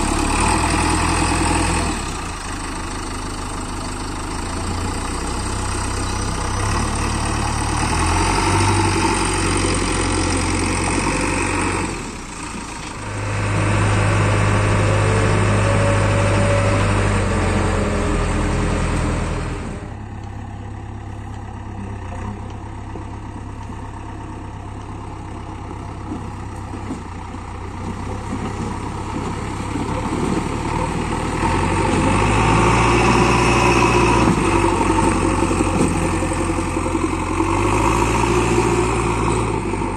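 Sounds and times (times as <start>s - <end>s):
diesel engine working at high revs: 0.0s - 39.9s.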